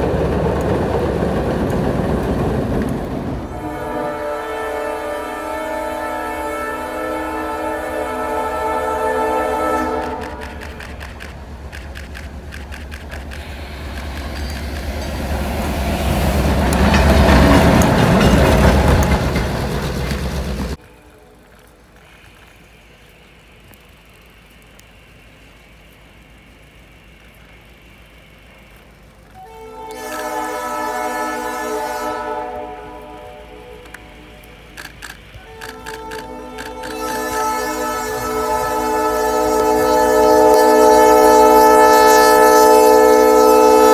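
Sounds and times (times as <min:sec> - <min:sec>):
diesel locomotive engine rumble: 0:00.0 - 0:43.9.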